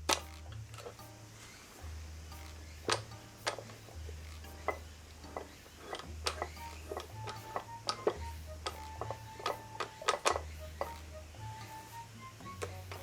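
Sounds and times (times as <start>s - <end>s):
low bass line: 0.0s - 5.4s, 6.0s - 13.0s
short plinking notes: 0.0s - 13.0s
ticking clicks: 0.0s - 13.0s.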